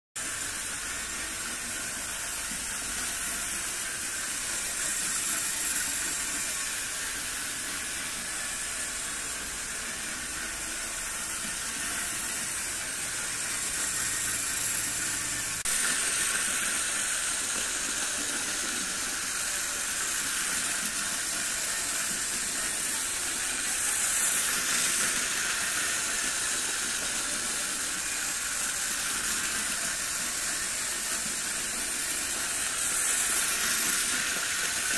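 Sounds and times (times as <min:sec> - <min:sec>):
model trains whirring on track: 0:00.2 - 0:34.9.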